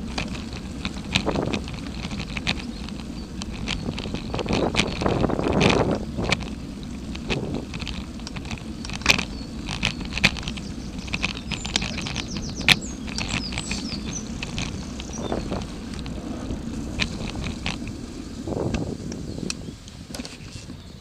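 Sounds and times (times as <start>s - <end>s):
sharp clicks and knocks: 0.0s - 18.0s
wind rumbling on microphone: 0.0s - 21.0s.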